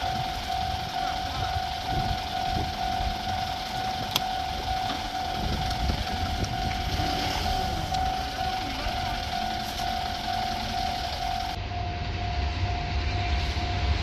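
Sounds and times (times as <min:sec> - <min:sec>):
level crossing warning bell ringing: 0:00.0 - 0:14.0
low rumble: 0:00.0 - 0:14.0.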